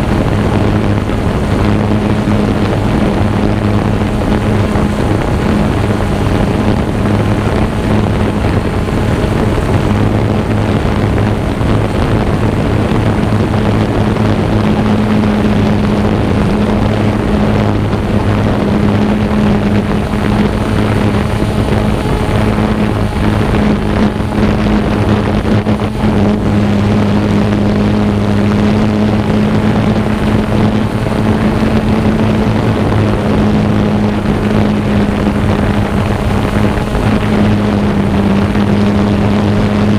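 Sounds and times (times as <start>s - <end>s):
drone propellers whirring: 0.0s - 39.9s
wind noise: 0.0s - 39.9s.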